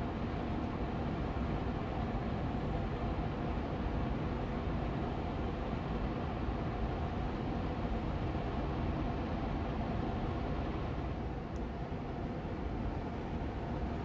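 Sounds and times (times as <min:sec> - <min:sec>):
air purifier fan humming: 0:00.0 - 0:14.0.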